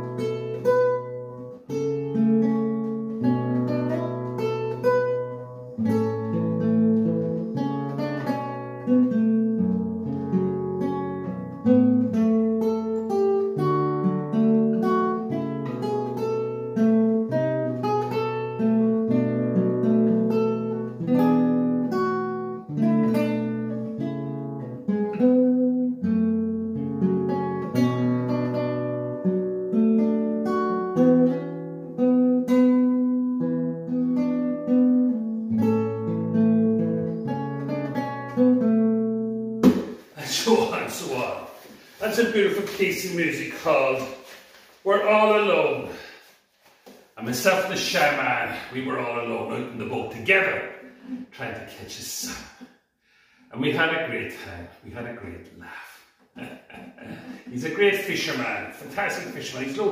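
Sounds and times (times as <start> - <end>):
fingerpicked classical guitar: 0.0 - 52.6, 56.2 - 59.9.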